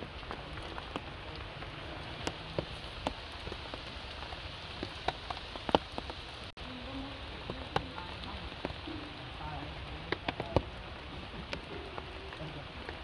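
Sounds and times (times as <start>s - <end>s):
light rain hissing: 0.0s - 13.0s
raindrops ticking on stone and leaves: 0.0s - 13.0s.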